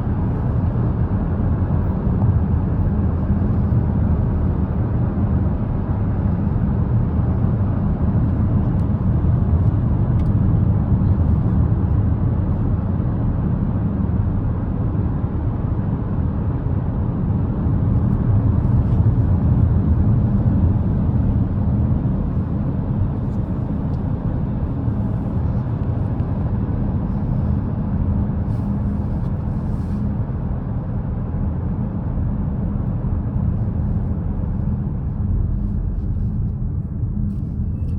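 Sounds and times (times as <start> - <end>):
car driving on road: 0.0 - 37.9.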